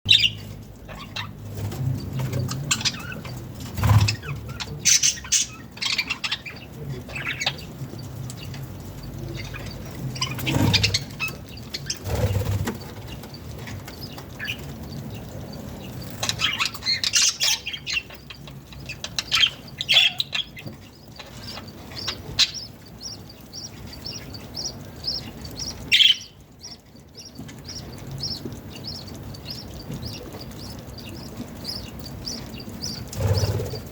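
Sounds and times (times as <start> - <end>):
budgerigars chirping and squawking: 0.1 - 33.9.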